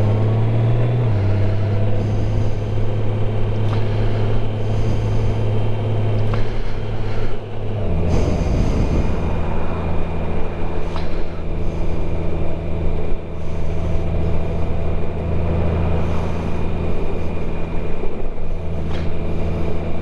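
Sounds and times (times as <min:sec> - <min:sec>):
motorcycle engine running: 0:00.0 - 0:20.0
road noise: 0:00.0 - 0:20.0.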